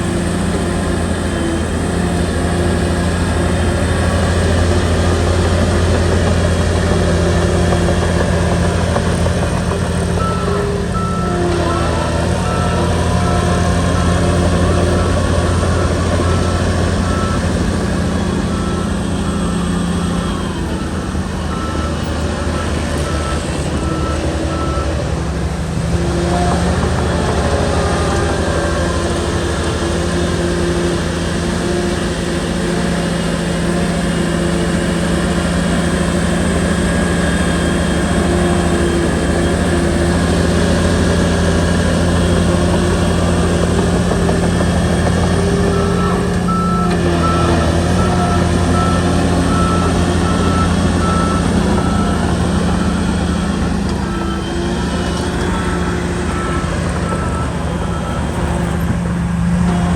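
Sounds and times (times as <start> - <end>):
bulldozer diesel engine under load: 0.0 - 59.9
reversing alarm beeping: 0.0 - 59.9.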